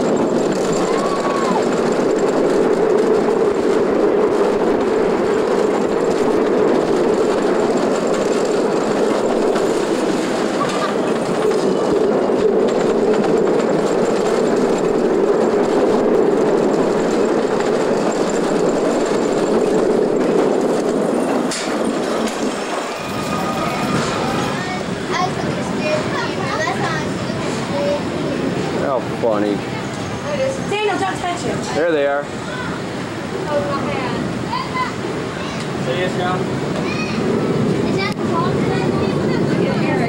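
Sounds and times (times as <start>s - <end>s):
roller coaster car rumbling: 0.0s - 40.0s.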